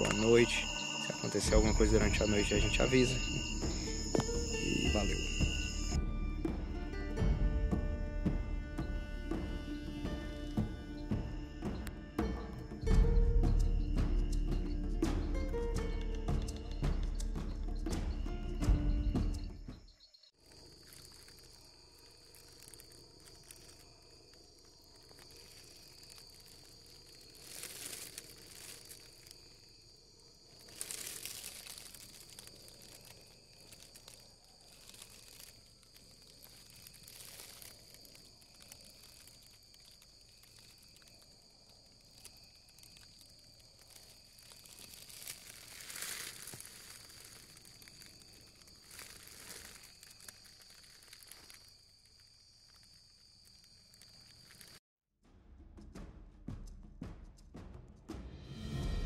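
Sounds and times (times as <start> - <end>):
high insect trill: 0.0 - 54.8.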